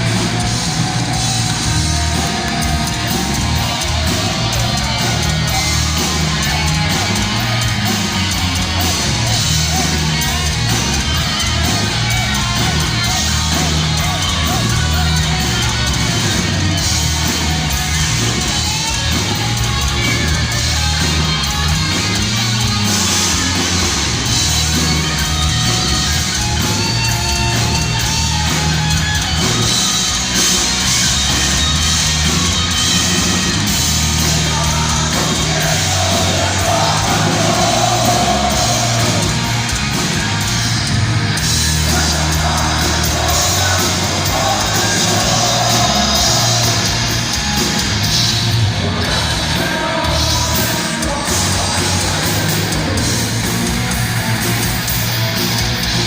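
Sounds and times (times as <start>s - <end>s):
bass: 0.0s - 56.0s
distorted guitars: 0.0s - 56.0s
drums: 0.0s - 56.0s.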